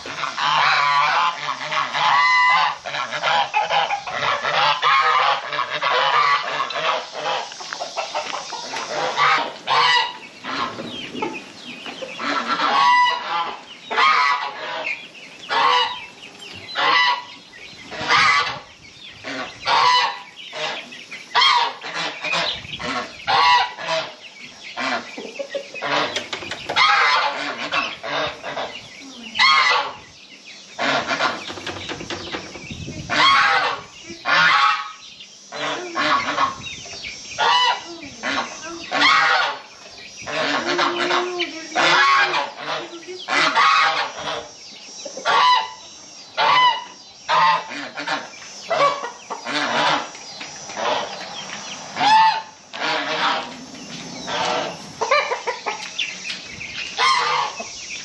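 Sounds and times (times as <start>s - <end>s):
geese honking: 0.0s - 30.1s, 30.7s - 58.0s.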